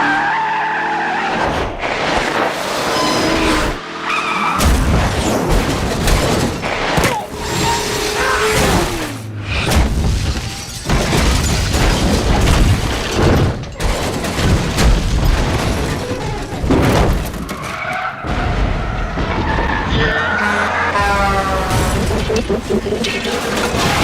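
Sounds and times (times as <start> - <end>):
tyres skidding: 0.0 - 24.0.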